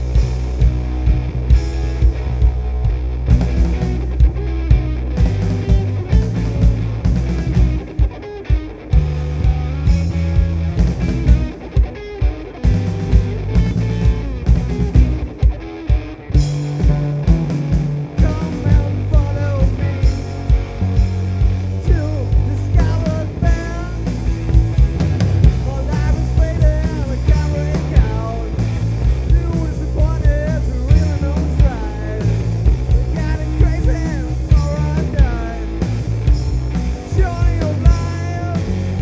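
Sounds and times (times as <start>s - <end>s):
rock band playing: 0.0s - 39.0s.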